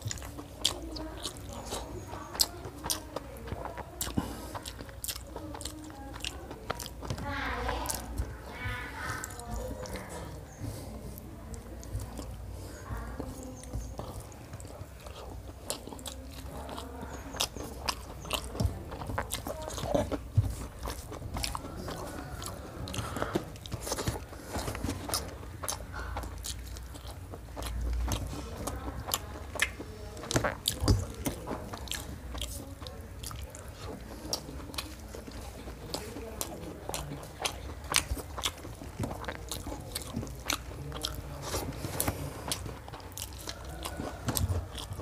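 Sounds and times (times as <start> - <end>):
man chewing: 0.0 - 45.0.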